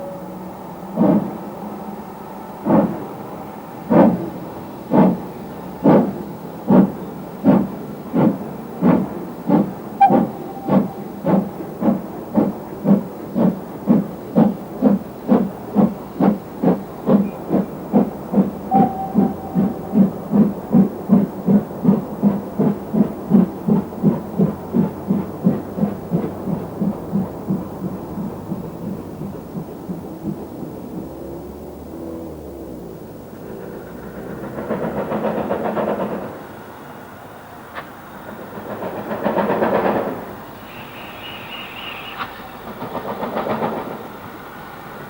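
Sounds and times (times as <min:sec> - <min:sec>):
steam locomotive exhaust beating: 0:00.0 - 0:45.0.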